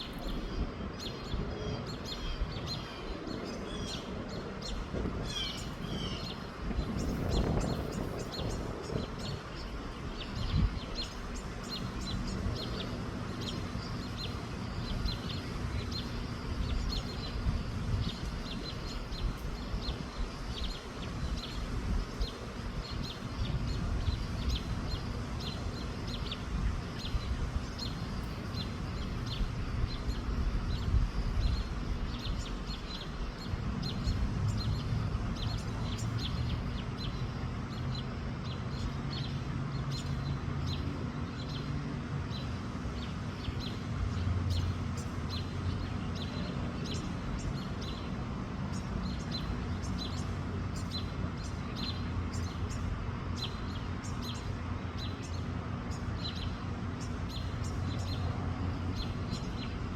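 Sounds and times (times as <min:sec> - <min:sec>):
small birds chirping: 0:00.0 - 0:59.9
wind buffeting microphone: 0:00.0 - 0:59.9.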